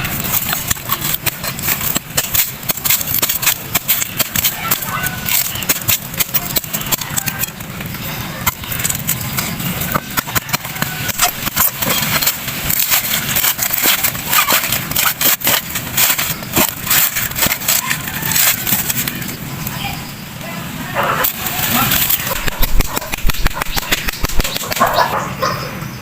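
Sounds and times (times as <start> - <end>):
blade chopping coconut: 0.0 - 19.4, 21.2 - 25.0.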